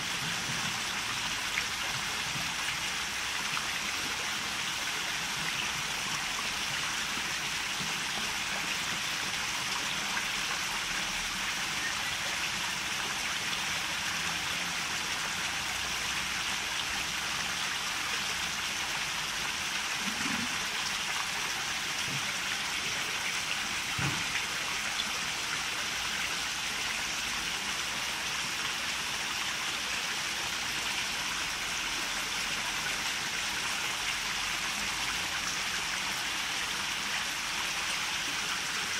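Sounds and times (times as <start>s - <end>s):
water running into a pond: 0.0s - 38.9s.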